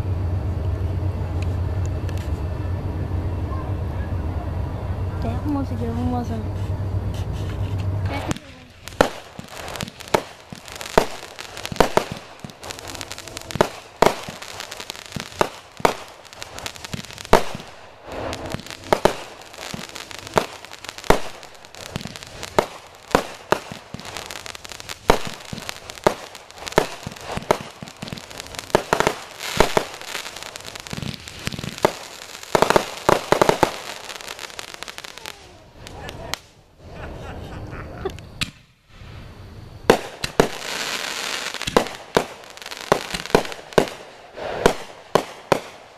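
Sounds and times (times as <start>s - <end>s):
fireworks bangs: 5.2s - 37.4s, 38.4s - 45.9s
fireworks crackling: 5.2s - 45.9s.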